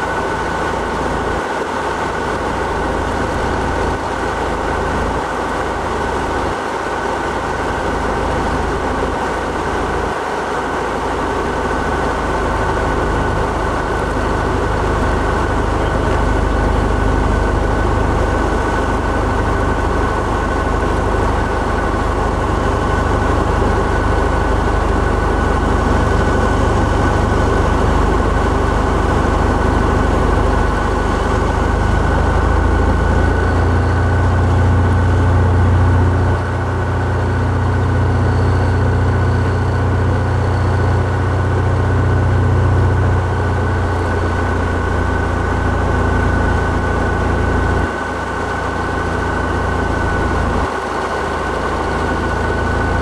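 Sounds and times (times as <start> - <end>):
aircraft engine and propeller droning: 0.0 - 53.0.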